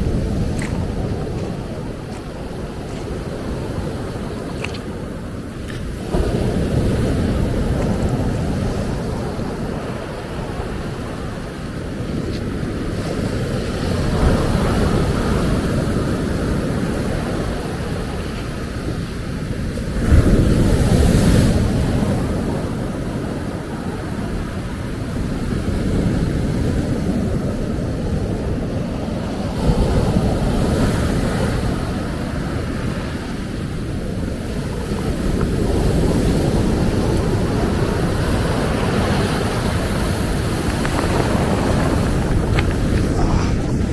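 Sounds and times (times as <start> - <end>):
ocean waves breaking on beach: 0.0 - 43.9
wind rumble on microphone: 0.0 - 43.9.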